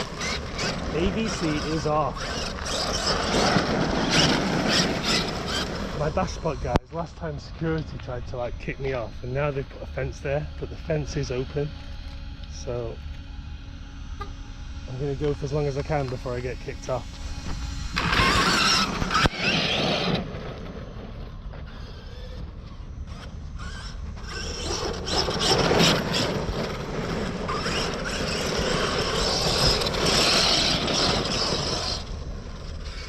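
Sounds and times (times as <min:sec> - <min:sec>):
rc car motor whining: 0:00.0 - 0:33.0.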